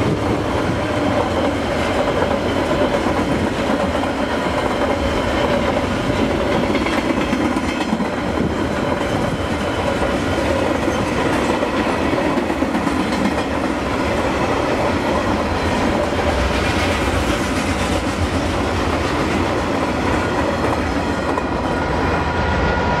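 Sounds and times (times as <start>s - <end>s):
train wheels clattering over rails: 0.0s - 22.2s.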